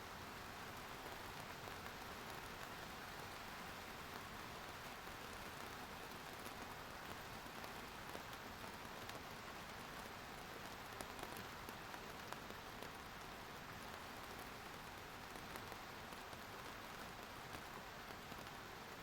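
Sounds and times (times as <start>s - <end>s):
steady rainfall: 0.0s - 19.0s
raindrops ticking on a surface: 0.1s - 19.0s.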